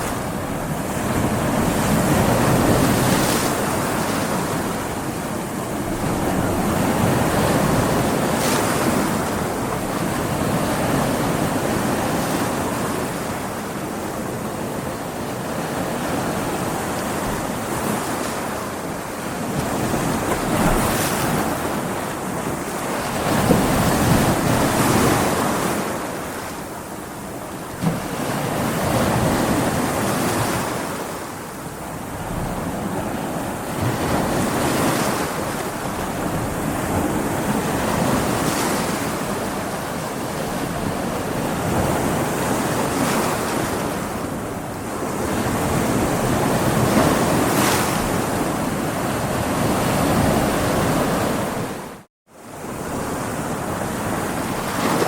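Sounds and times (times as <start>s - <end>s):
ocean waves breaking on rocks: 0.0s - 55.0s.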